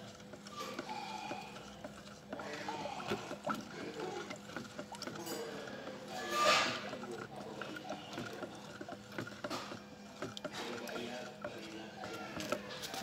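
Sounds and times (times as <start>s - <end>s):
paint sloshing in a bucket: 0.0s - 13.0s
stick knocking against bucket: 0.0s - 13.0s
faint voices: 0.5s - 13.0s.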